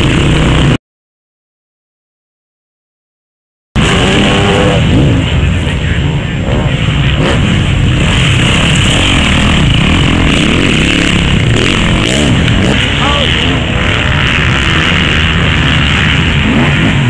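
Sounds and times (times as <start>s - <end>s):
motocross bike engines revving: 0.0s - 0.8s, 3.8s - 17.0s.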